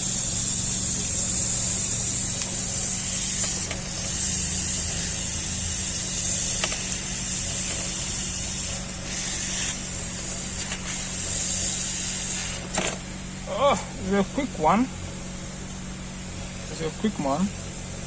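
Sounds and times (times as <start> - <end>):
hot air gun blowing: 0.0 - 16.7.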